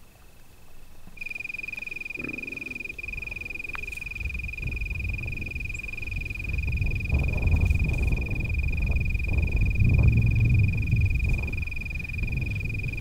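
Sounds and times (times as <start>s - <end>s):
high-pitched animal trill: 1.2s - 13.0s
wind noise: 1.2s - 13.0s.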